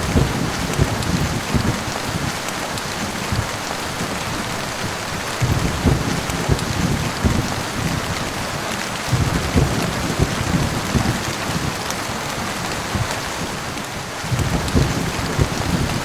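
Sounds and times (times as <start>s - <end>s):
heavy rain falling: 0.0s - 16.0s
low thunder rumbling: 0.0s - 16.0s.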